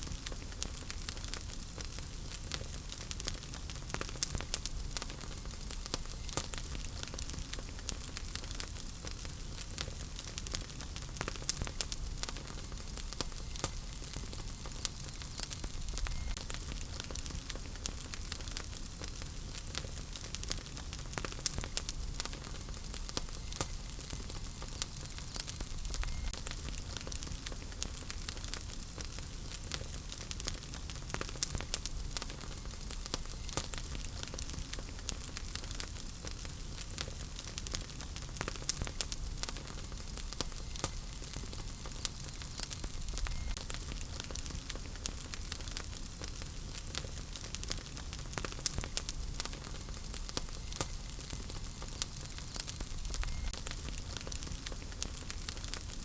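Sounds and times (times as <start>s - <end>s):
fire flames rumbling and hissing: 0.0s - 56.0s
logs crackling and popping: 0.0s - 56.0s.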